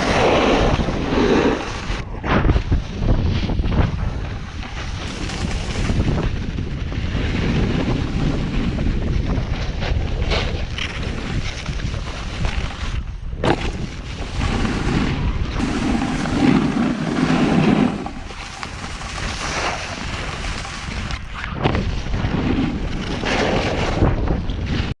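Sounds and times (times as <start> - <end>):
snowboard scraping over snow: 0.0 - 24.9
wind buffeting microphone: 0.0 - 24.9.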